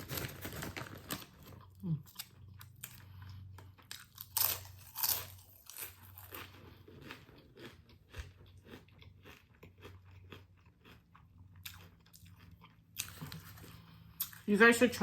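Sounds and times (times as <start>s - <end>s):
crunchy chewing of food: 0.0s - 14.5s.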